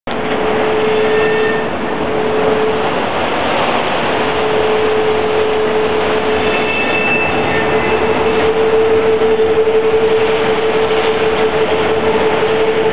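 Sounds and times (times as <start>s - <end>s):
train running noise: 0.0s - 12.9s
whining tone: 0.1s - 3.1s, 4.1s - 12.9s.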